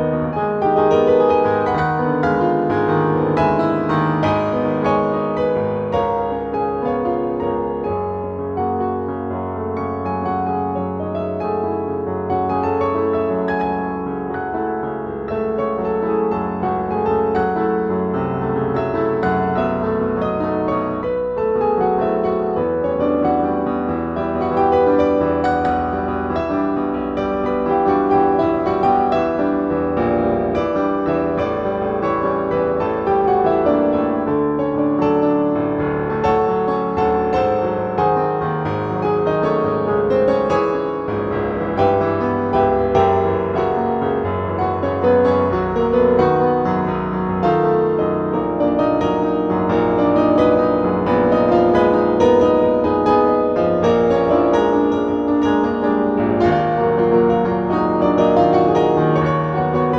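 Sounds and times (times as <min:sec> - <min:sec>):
fast classical piano: 0:00.0 - 0:59.9.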